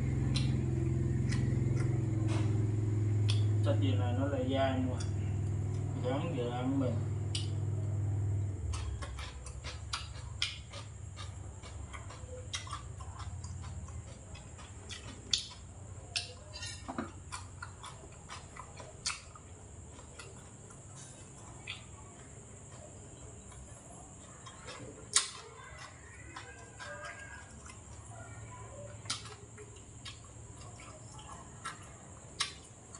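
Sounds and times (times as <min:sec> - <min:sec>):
person chewing: 0:00.0 - 0:03.6, 0:05.0 - 0:06.0, 0:07.2 - 0:32.9.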